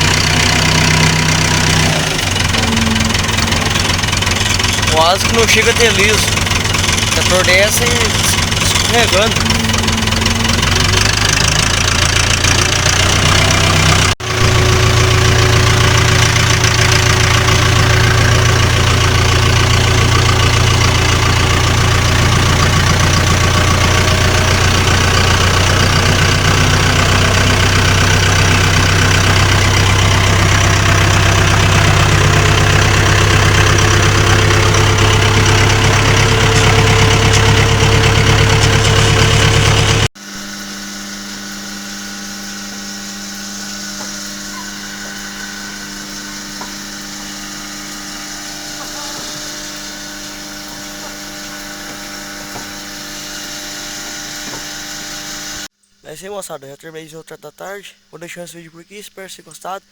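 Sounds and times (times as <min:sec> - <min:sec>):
tractor engine running: 0:00.0 - 0:55.8.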